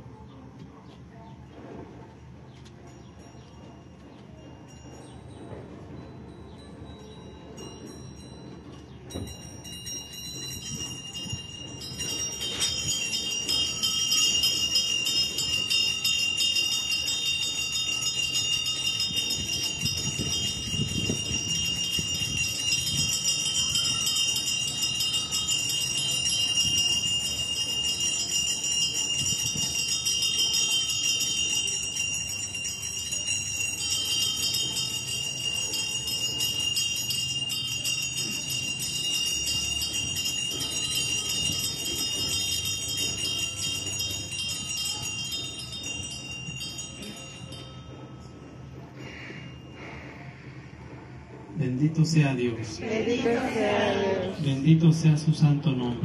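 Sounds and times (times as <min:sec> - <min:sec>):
small hand bells ringing: 0:02.8 - 0:50.5.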